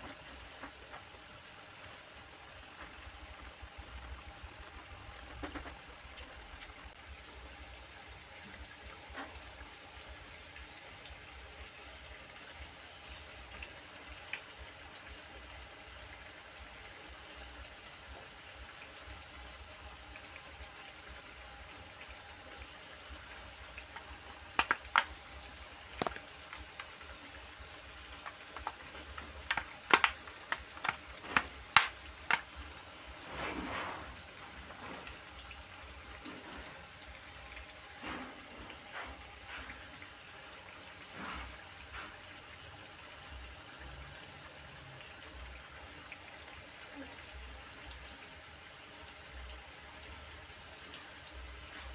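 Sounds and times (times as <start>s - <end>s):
food deep-frying in oil: 0.0s - 51.9s.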